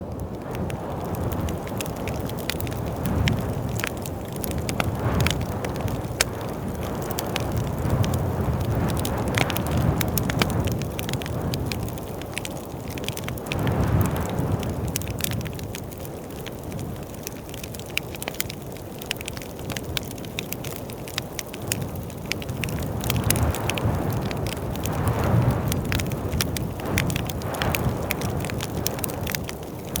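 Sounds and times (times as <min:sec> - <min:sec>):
low rumble of flame: 0:00.0 - 0:30.0
wood fire crackling and popping: 0:00.0 - 0:30.0.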